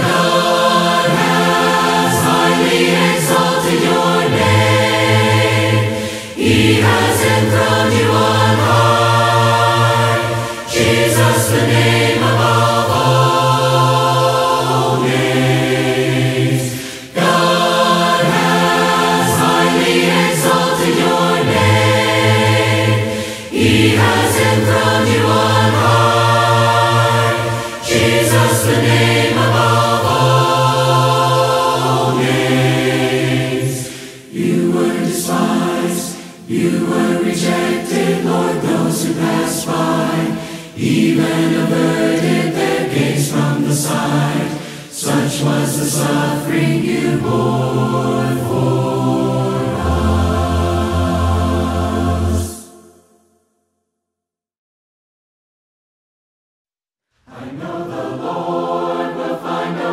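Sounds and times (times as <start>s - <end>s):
choir singing a hymn: 0.0s - 53.2s, 57.3s - 59.9s.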